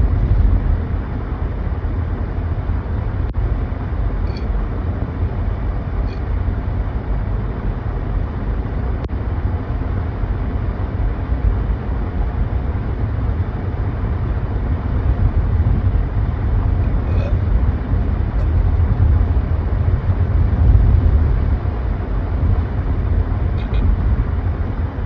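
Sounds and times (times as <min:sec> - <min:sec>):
car cabin road and engine rumble: 0:00.0 - 0:25.0.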